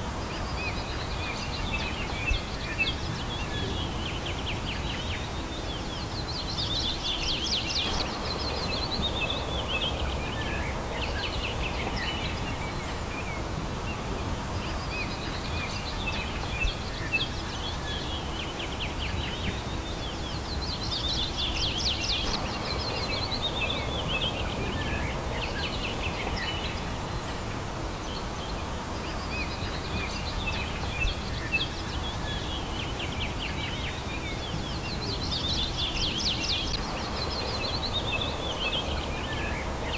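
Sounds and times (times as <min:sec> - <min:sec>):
low outdoor rumble: 0:00.0 - 0:39.9.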